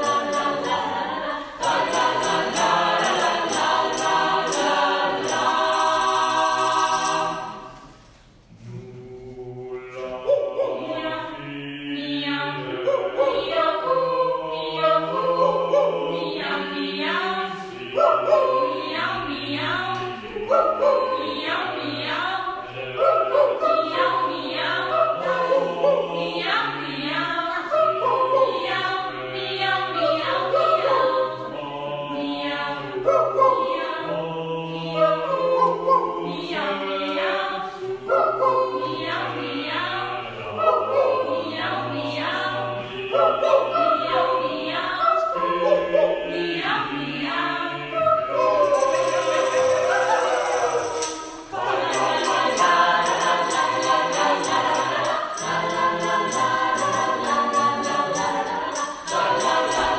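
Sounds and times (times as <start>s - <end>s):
mixed choir singing in parts: 0.0s - 59.9s.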